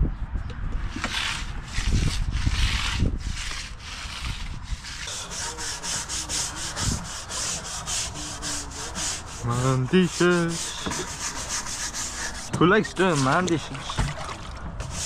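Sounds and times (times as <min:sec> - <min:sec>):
steel tool scraping concrete: 0:00.9 - 0:13.9
scraper blade scraping a float: 0:00.9 - 0:14.2, 0:14.8 - 0:15.0.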